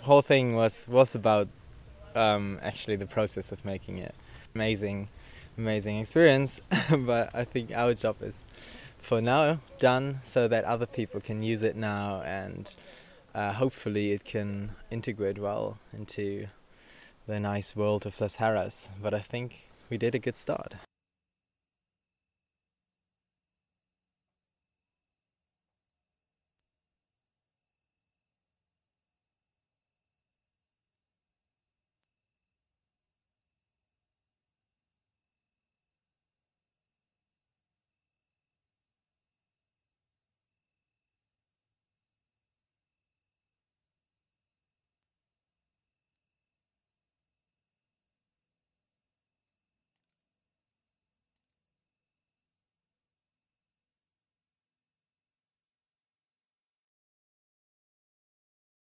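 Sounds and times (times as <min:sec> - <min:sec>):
crickets trilling: 0:00.0 - 0:55.8
short low insect calls: 0:00.0 - 0:56.2.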